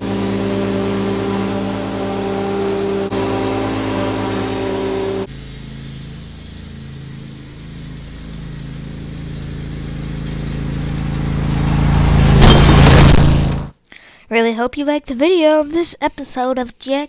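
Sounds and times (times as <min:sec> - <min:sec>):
riding lawn mower engine: 0:00.0 - 0:13.7.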